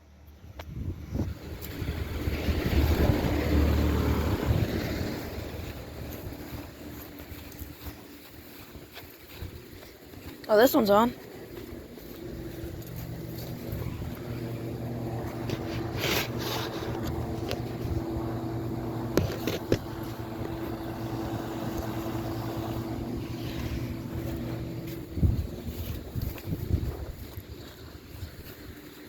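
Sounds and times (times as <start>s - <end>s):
wind buffeting microphone: 0.4s - 10.4s, 11.5s - 29.0s
condenser unit humming: 1.4s - 29.0s.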